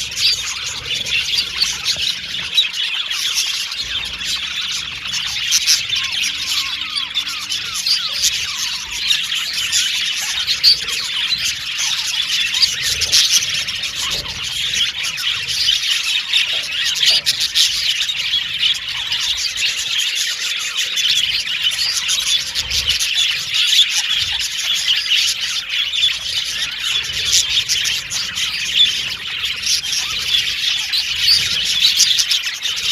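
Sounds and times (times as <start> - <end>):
flock of budgerigars chirping: 0.0 - 32.9.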